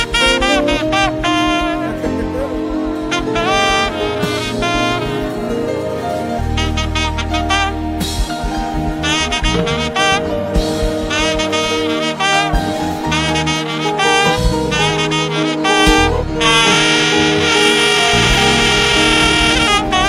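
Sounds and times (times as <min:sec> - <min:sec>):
bass notes: 0:00.0 - 0:20.0
drum beat: 0:00.0 - 0:20.0
saxophone melody: 0:00.0 - 0:20.0.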